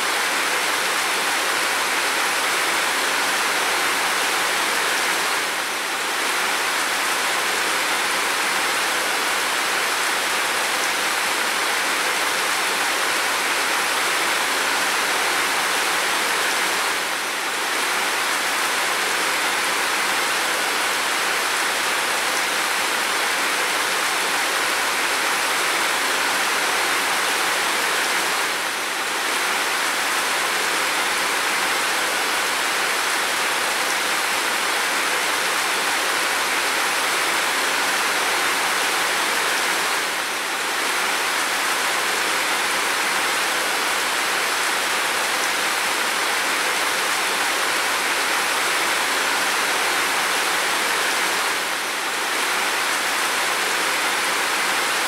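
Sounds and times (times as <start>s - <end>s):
heavy rain on window and roof: 0.0s - 55.0s.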